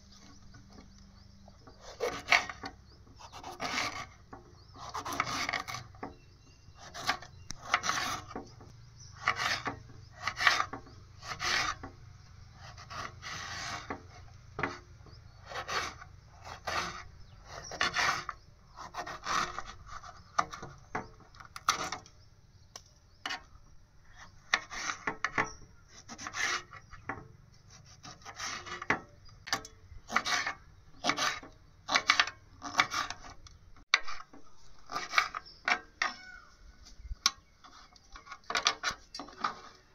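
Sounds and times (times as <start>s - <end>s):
rasping scraping strokes: 1.6s - 22.2s, 23.2s - 36.2s, 36.8s - 39.9s.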